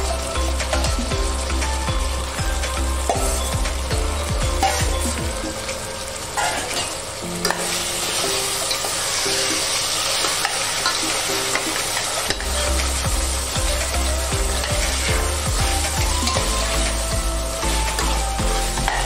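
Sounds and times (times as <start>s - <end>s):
meat frying and sizzling: 0.0s - 19.0s.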